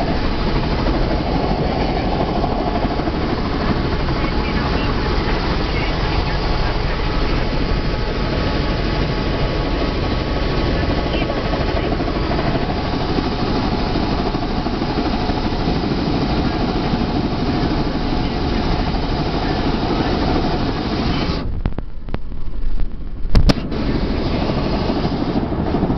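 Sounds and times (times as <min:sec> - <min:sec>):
helicopter cabin drone: 0:00.0 - 0:25.9.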